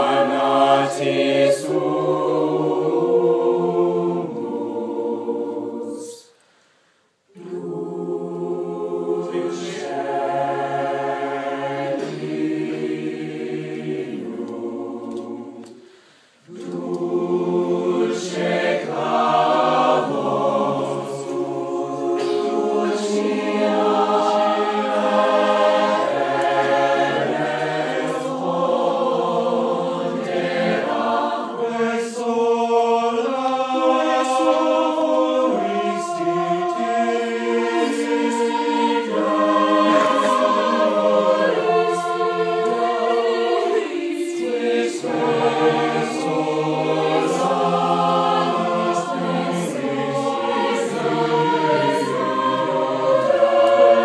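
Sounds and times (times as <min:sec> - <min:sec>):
choir singing a cappella: 0:00.0 - 0:06.6, 0:07.3 - 0:54.0.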